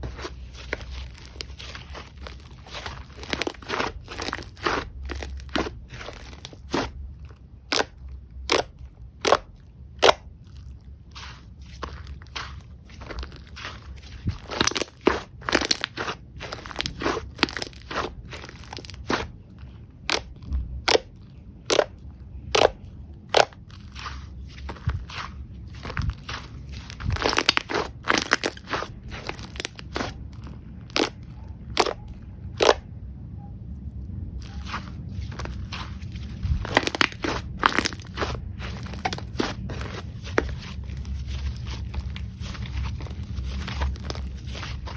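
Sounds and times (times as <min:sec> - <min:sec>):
slime squishing: 0:00.0 - 0:32.9, 0:34.3 - 0:44.9.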